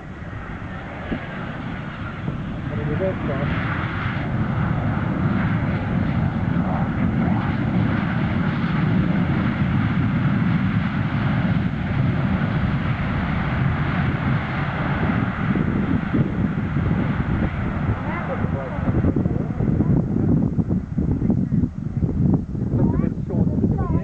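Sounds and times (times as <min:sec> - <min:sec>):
airliner landing engine rumble: 0:00.0 - 0:24.0.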